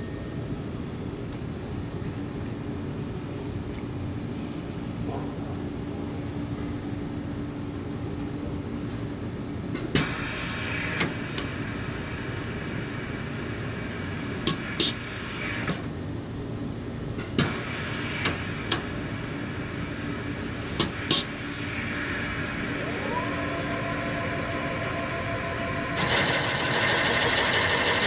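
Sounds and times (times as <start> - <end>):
shop machinery hum: 0.0 - 28.0.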